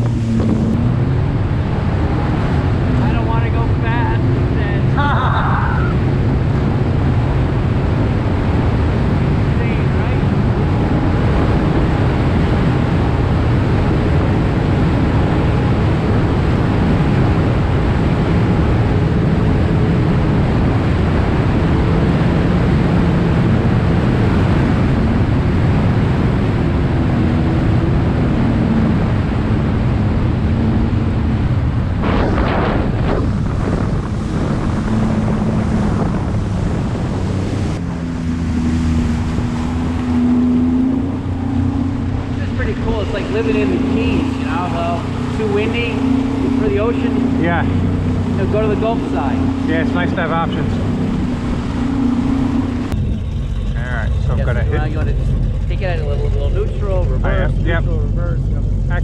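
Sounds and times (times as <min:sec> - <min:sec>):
water splashing: 0:00.0 - 0:59.0
watercraft engine hum: 0:00.0 - 0:59.0
wind on microphone: 0:00.0 - 0:59.0.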